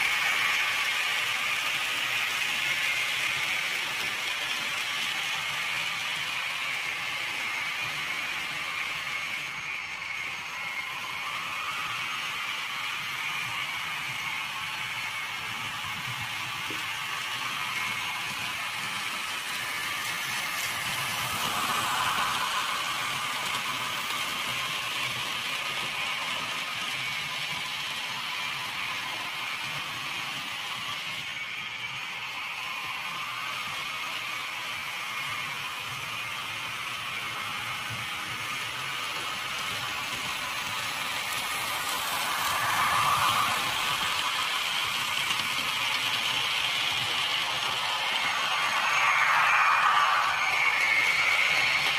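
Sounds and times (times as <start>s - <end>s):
model train whirring and rattling: 0.0s - 51.9s
wheel and rail noise: 0.0s - 51.9s.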